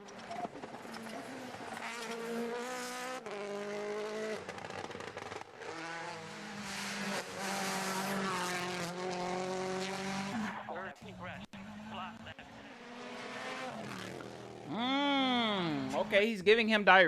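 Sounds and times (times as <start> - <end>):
rally car engine revving: 0.0 - 16.2.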